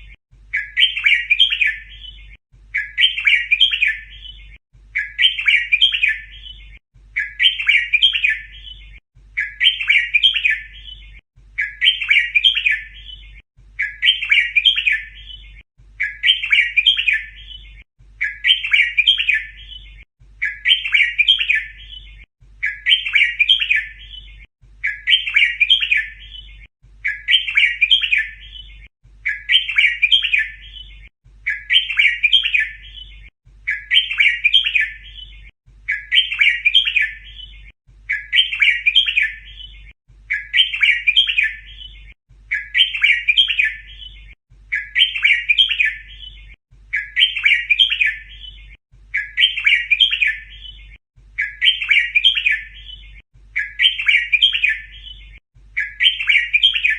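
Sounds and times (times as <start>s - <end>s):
bulbul song: 0.0s - 56.9s.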